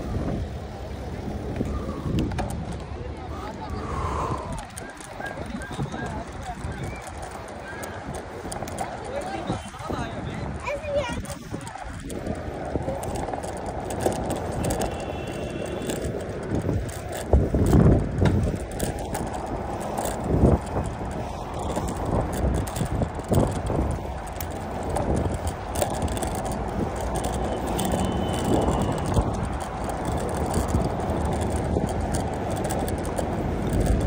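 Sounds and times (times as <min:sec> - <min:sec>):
bicycle tyre rumble: 0:00.0 - 0:34.0
wind noise on microphone: 0:00.0 - 0:34.0.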